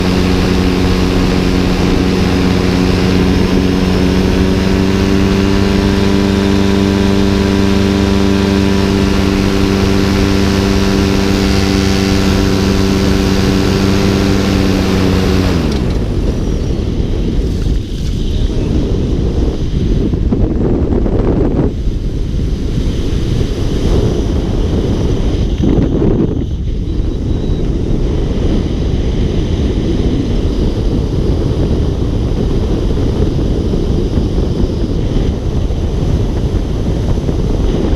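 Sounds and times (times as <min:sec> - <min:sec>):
paramotor engine running: 0:00.0 - 0:37.9
wind noise on microphone: 0:00.0 - 0:37.9.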